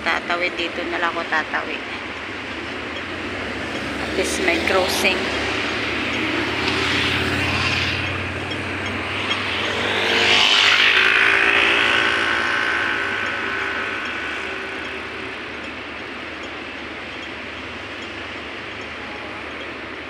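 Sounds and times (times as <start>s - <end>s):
vehicle passing by: 0.0s - 16.2s
distant traffic hum: 0.0s - 20.0s.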